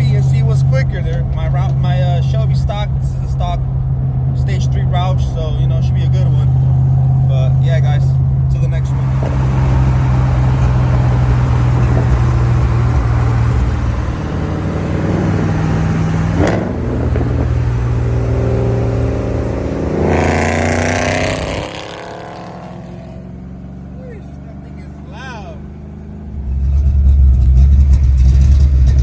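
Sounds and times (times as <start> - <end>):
car engine drone from cabin: 0.0 - 29.0.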